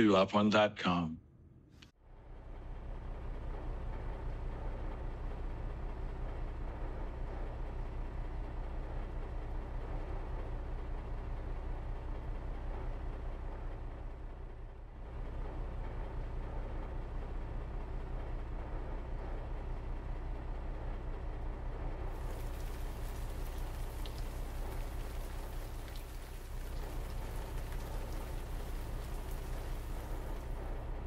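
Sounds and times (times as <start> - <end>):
low mechanical rumble: 1.6 - 31.0.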